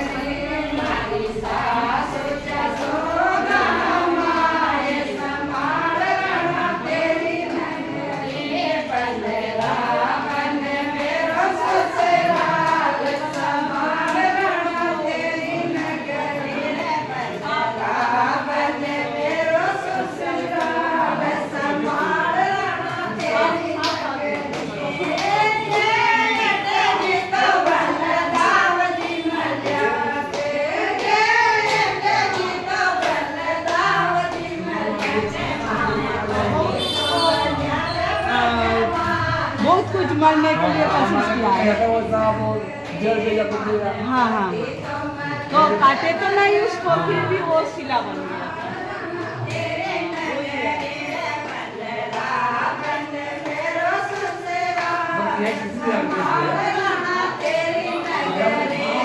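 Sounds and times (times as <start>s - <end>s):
hand claps: 0.0s - 17.0s, 17.8s - 40.2s, 48.1s - 58.8s
women singing: 0.0s - 59.0s.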